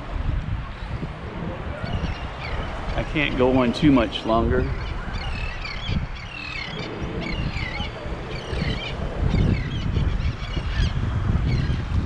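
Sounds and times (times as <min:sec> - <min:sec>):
wind: 0:00.0 - 0:12.0
seabirds calling: 0:00.7 - 0:11.9.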